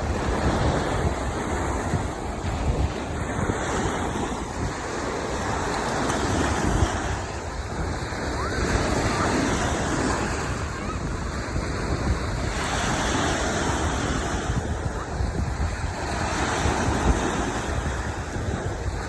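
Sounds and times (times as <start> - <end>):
waves breaking on beach: 0.0 - 19.0
wind buffeting microphone: 0.0 - 19.0.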